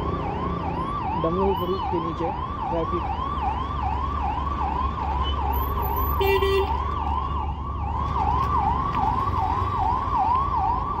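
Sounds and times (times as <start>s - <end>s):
city traffic rumble: 0.0s - 11.0s
emergency siren yelping: 0.0s - 11.0s.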